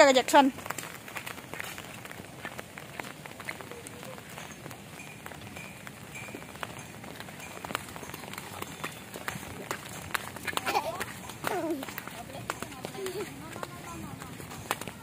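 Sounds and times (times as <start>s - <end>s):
raindrops ticking on surfaces: 0.0s - 15.0s
steady rainfall: 0.0s - 15.0s.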